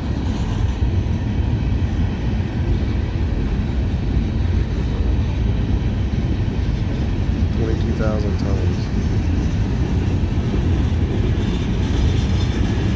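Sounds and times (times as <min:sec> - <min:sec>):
freight train wheels rolling: 0:00.0 - 0:12.9.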